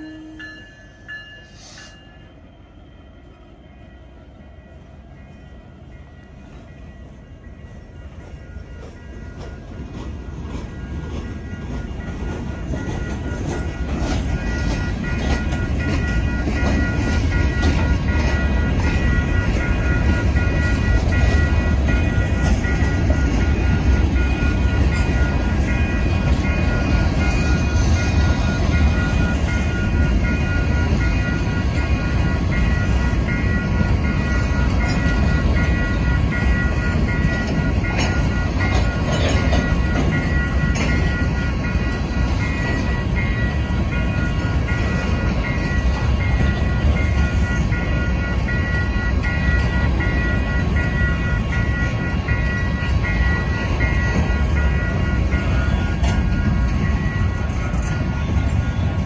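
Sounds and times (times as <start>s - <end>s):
crossing bell ringing: 0.0s - 59.0s
freight train rumbling: 0.0s - 59.0s.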